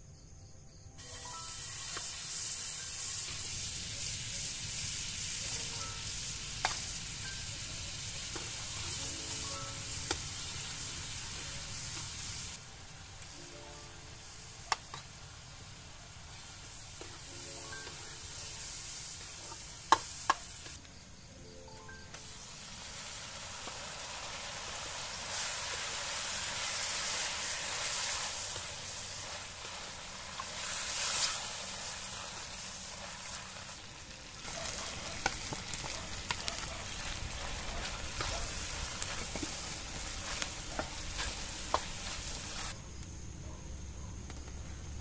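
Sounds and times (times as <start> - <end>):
meat sizzling in hot oil: 1.0 - 20.8, 22.2 - 42.8.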